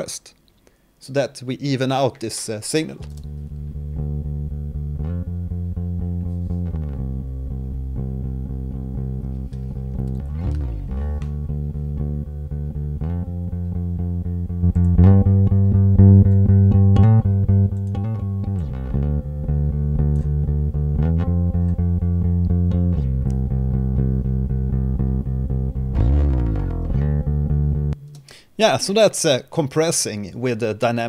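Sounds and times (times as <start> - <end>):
bass guitar low notes: 3.0 - 29.0.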